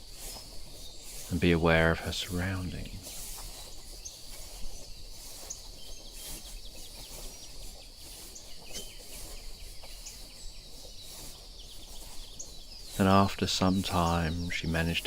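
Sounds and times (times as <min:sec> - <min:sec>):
bird chirps: 0:00.0 - 0:15.0
insect-like hiss: 0:00.0 - 0:15.0.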